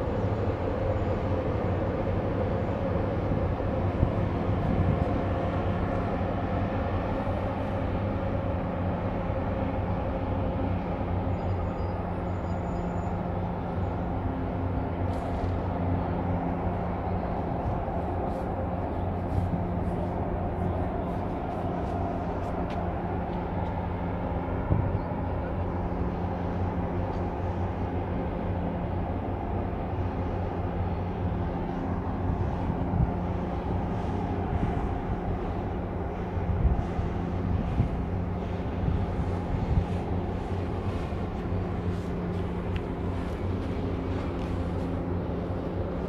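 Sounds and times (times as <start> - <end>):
marine engine drone: 0.0 - 46.0.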